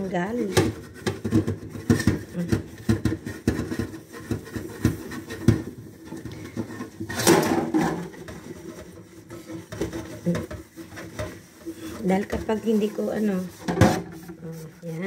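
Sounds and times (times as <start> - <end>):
dishes knocking and scraping: 0.0 - 14.7.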